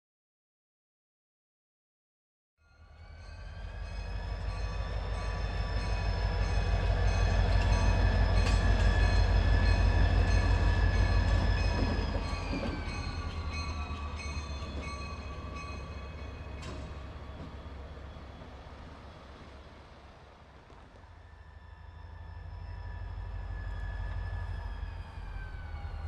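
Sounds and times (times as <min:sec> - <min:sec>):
diesel locomotive passing: 0:02.6 - 0:26.0.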